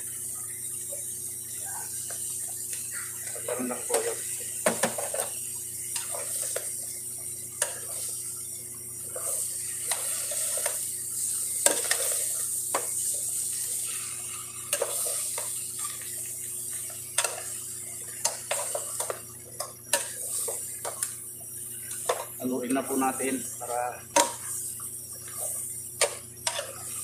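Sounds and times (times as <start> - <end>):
simmering pot hiss: 0.0 - 27.0.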